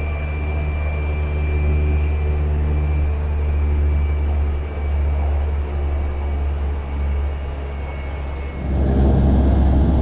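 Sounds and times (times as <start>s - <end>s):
high turbine whine: 0.0s - 10.0s
turboprop engine drone: 0.0s - 10.0s.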